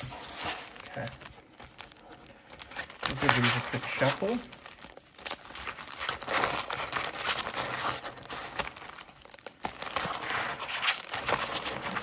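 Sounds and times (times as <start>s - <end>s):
foil packs crinkling: 0.0s - 12.0s.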